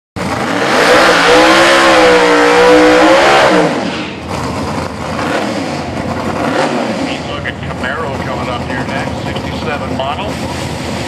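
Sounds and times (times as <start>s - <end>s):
engine at high revs: 0.2s - 11.0s.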